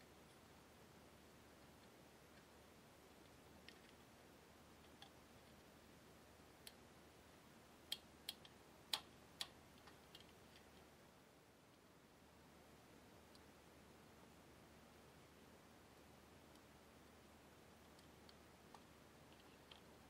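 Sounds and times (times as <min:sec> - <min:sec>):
low background hiss: 0:00.0 - 0:20.0.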